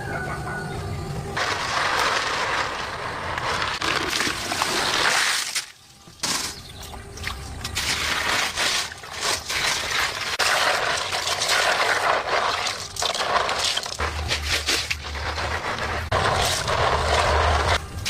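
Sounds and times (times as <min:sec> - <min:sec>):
water sloshing and trickling: 0:03.4 - 0:17.9.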